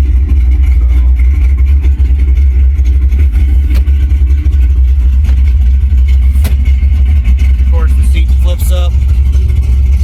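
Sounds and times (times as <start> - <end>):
car engine rumbling through speakers: 0.0 - 10.0.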